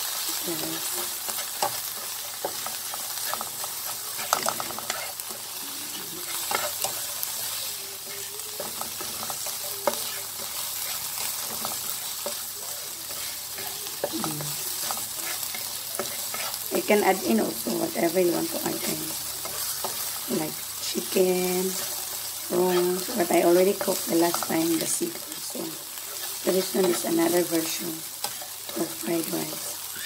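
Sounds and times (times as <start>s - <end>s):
food sizzling in frying pan: 0.0s - 30.0s
spatula scraping pan: 0.7s - 29.8s.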